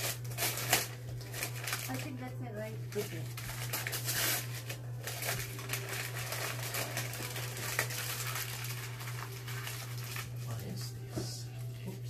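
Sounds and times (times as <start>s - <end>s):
wrapping paper crinkling: 0.0s - 11.9s.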